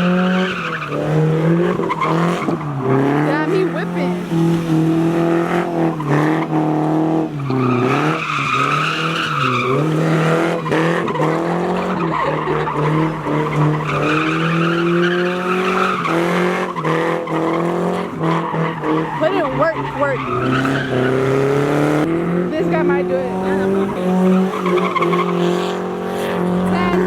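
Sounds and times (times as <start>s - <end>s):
tyres squealing: 0.0s - 4.5s, 5.1s - 27.0s
car engine revving high: 0.0s - 27.0s.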